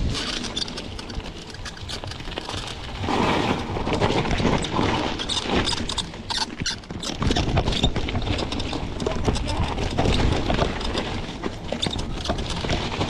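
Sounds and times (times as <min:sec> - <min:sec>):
bike rattling clicks: 0:00.0 - 0:03.0, 0:03.9 - 0:13.0
bike tyres on dirt: 0:00.0 - 0:13.0
wind rumbling on microphone: 0:00.0 - 0:13.0.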